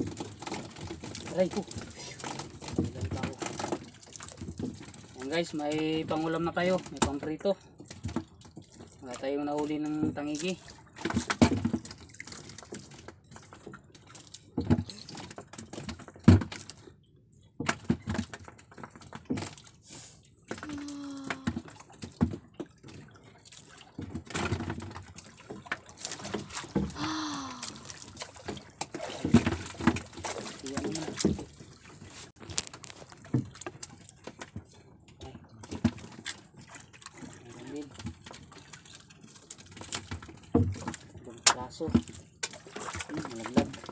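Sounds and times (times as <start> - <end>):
knocks and clatter of fishing gear: 0.0 - 19.8, 20.4 - 43.9
water splashing around boat: 0.0 - 43.9.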